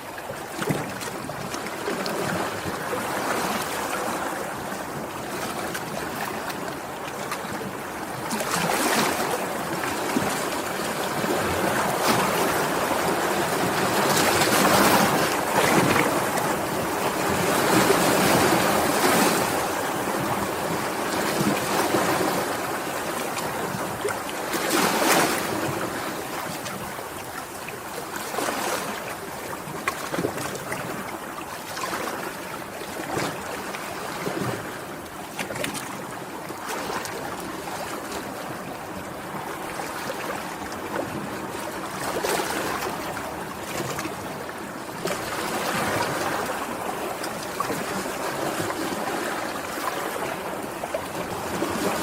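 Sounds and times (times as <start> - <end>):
sea waves washing ashore: 0.0 - 52.0.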